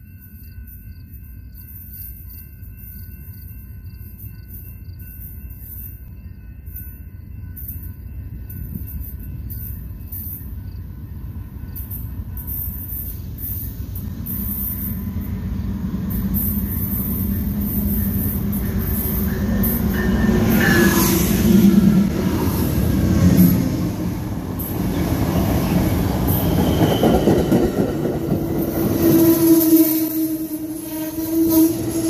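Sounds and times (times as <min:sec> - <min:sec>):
train wheels rumbling on rail: 0:00.8 - 0:32.0.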